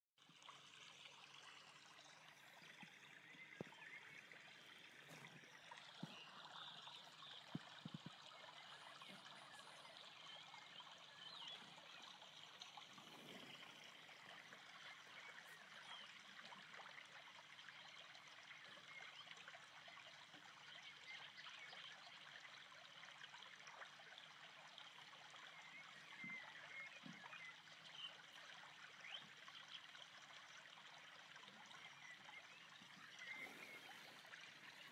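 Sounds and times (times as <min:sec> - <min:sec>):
water lapping and trickling: 0:00.2 - 0:34.9.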